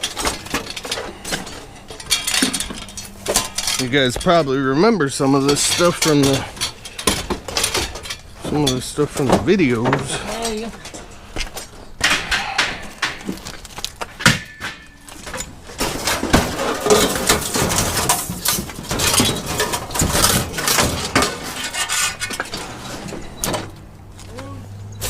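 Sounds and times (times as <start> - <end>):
scrap metal clanking: 0.0 - 23.9.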